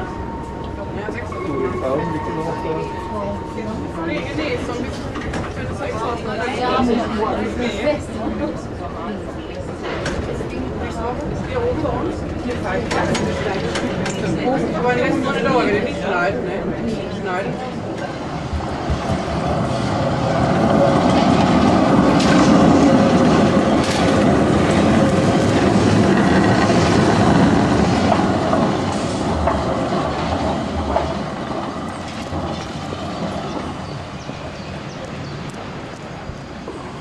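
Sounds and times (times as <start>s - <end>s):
tram wheels rumbling over rails: 0.0s - 37.0s.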